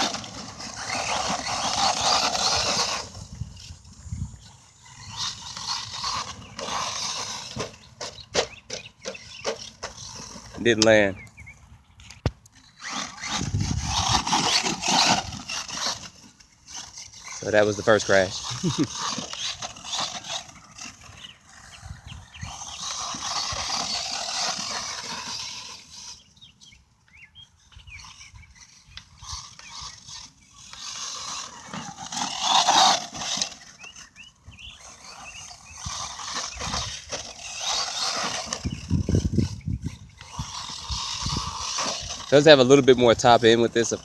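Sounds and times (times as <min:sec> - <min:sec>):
electric motor whine: 0:00.0 - 0:26.8, 0:27.5 - 0:44.0
tires on dirt: 0:00.0 - 0:44.0.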